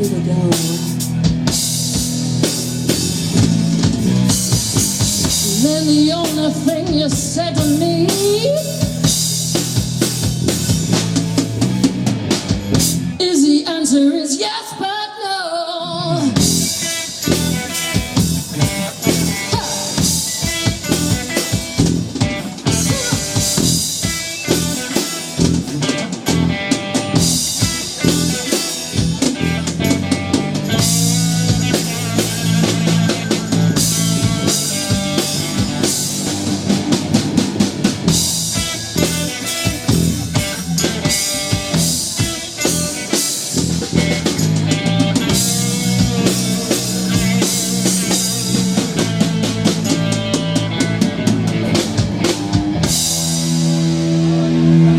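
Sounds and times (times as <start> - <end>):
rock band playing: 0.0 - 14.9, 15.8 - 54.9.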